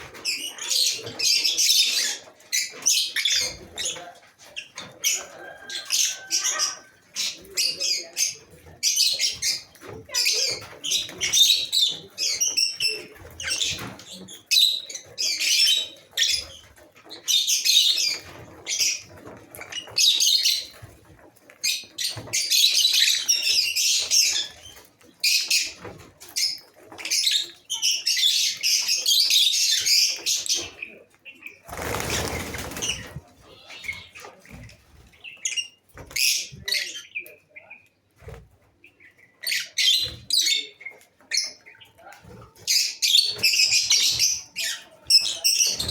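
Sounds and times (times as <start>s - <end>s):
lovebirds chattering: 0.0s - 45.9s.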